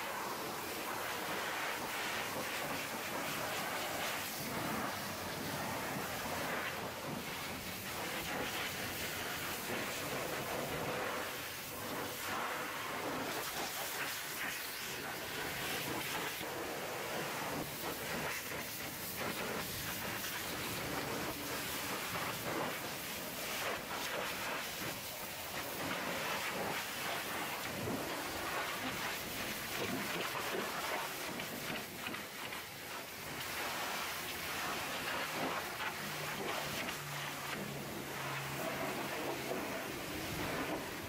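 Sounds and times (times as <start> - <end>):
pressure washer spraying metal: 0.0 - 41.0.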